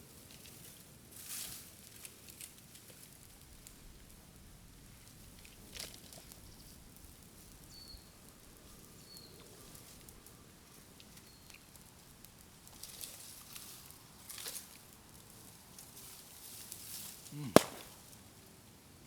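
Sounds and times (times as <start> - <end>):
bamboo crackling in fire: 0.0 - 18.1.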